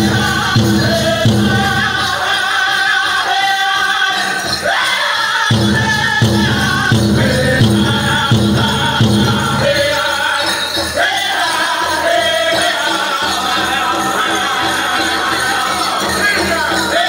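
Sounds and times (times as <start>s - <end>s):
big drum beating: 0.0s - 2.3s, 5.5s - 17.0s
bells jingling: 0.0s - 17.0s
group singing high: 0.0s - 17.0s.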